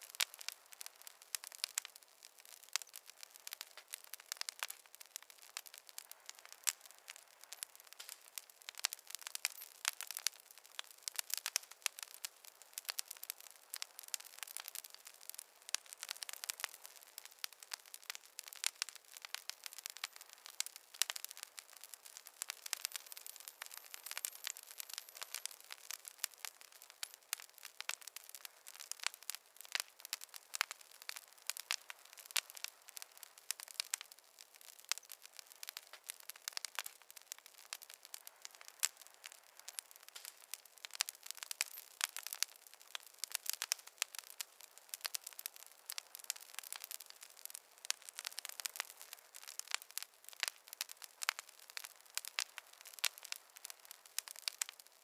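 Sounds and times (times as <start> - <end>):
faint hiss: 0.0 - 55.0
wood fire crackling: 0.0 - 55.0.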